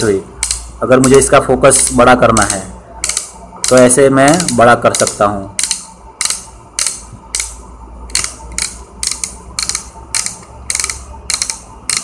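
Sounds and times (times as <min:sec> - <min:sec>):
torch head ratcheting clicks: 0:00.4 - 0:01.3, 0:02.3 - 0:07.5, 0:08.1 - 0:12.0.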